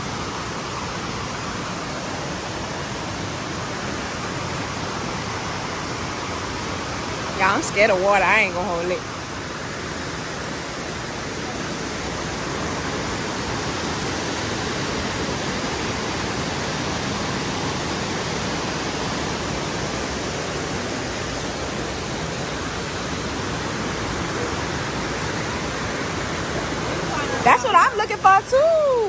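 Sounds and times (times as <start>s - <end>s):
water rushing over rocks: 0.0s - 29.0s.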